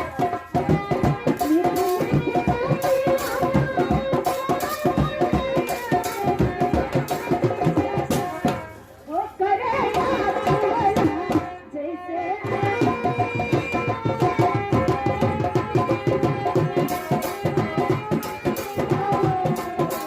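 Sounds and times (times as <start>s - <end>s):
tabla playing fast rhythm: 0.0s - 8.8s, 9.7s - 11.6s, 12.4s - 20.0s.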